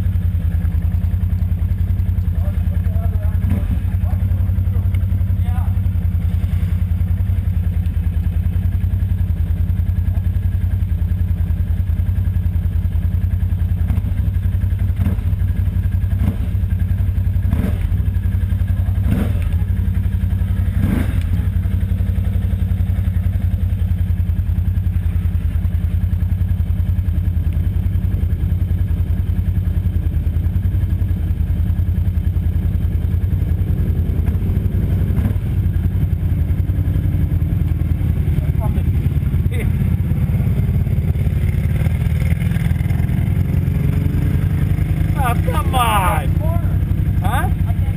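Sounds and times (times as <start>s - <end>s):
atv engine droning: 0.0s - 47.9s.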